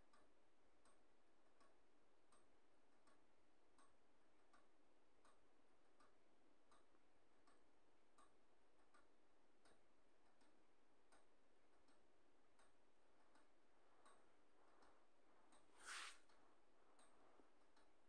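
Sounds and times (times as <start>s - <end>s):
faint clock ticking: 0.0s - 18.0s.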